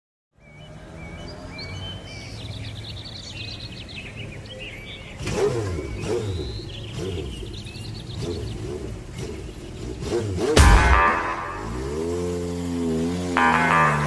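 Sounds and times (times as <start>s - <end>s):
motorcycle engine idling and revving: 0.3s - 14.0s
birds chirping: 0.4s - 14.0s.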